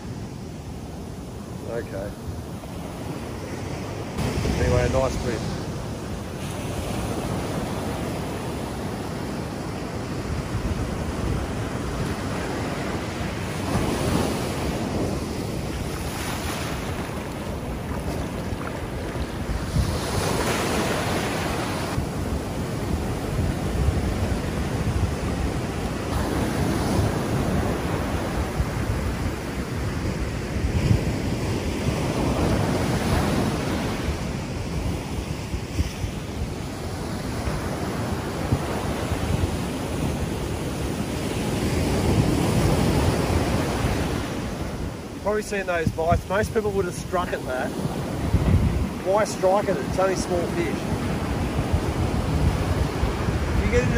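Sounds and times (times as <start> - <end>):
ocean surf breaking: 0.0 - 53.9
wind buffeting microphone: 0.0 - 53.9.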